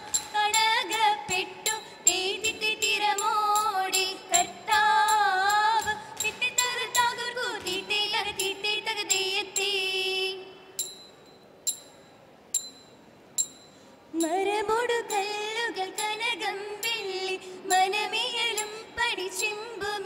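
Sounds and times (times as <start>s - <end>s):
small hand cymbals striking: 0.0s - 9.8s, 10.7s - 19.9s
women singing: 0.0s - 10.6s, 14.2s - 20.0s.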